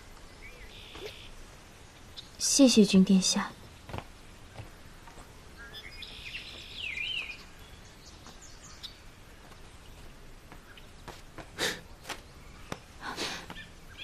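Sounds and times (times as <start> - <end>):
birds chirping: 0.0 - 14.0
outdoor background hiss: 0.0 - 14.0.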